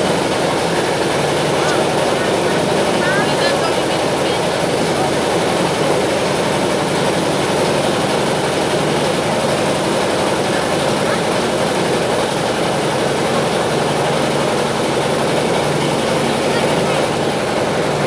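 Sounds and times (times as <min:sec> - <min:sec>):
engine-like drone: 0:00.0 - 0:18.0.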